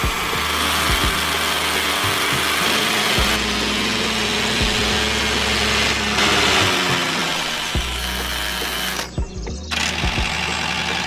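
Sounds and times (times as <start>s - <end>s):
grain mill whirring and rattling: 0.0s - 11.0s.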